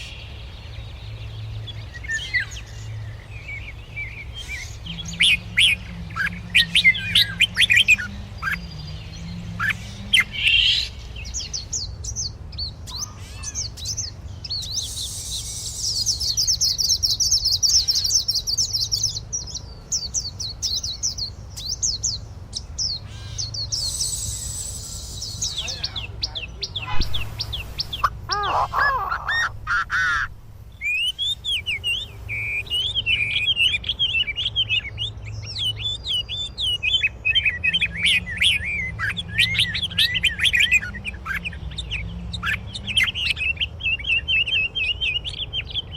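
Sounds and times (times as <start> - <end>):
birds chirping and twittering: 0.0 - 45.9.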